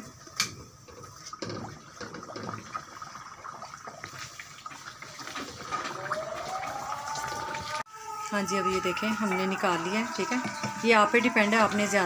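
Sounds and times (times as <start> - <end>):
bread deep-frying in sizzling oil: 0.0 - 12.0.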